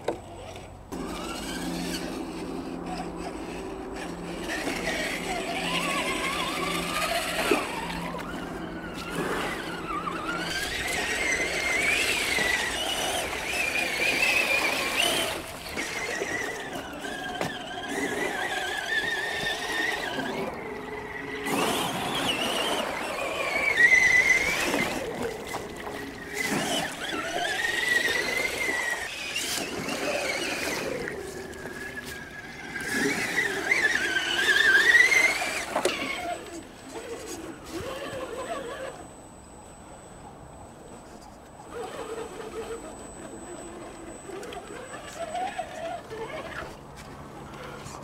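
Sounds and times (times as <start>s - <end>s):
toy car electric motor whining: 0.0s - 40.0s, 40.9s - 48.0s.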